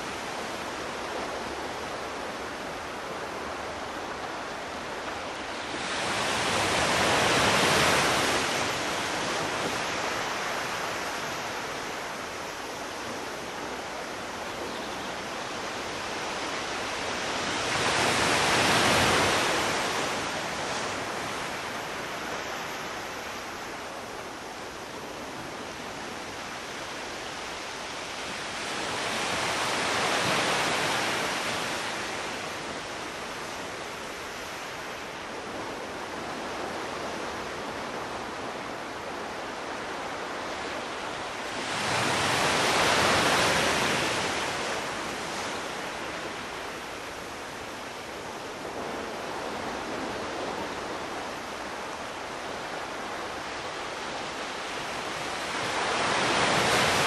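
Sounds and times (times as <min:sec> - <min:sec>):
ocean surf washing: 0:00.0 - 0:57.0.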